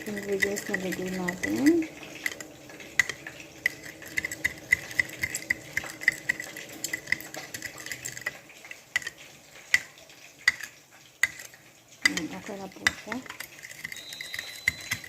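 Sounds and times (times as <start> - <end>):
spoon clinking in container: 0.0 - 8.4, 10.5 - 15.0.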